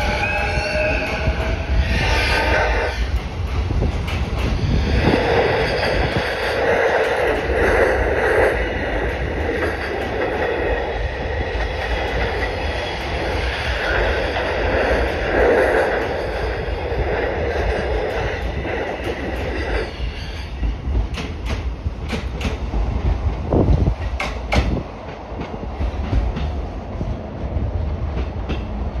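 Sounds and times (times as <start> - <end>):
electric train rumbling past: 0.0 - 29.0
wheels clacking over rail joints: 1.0 - 16.6, 17.6 - 26.8.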